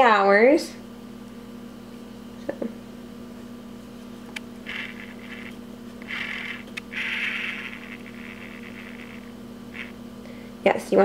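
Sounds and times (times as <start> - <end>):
steady low hum: 0.7 - 11.0.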